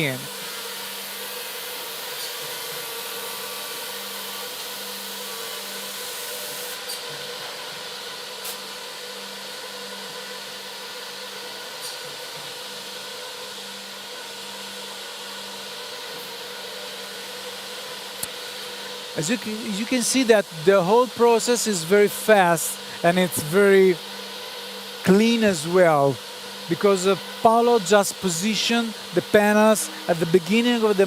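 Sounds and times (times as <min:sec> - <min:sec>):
edge banding machine humming: 0:00.0 - 0:31.0.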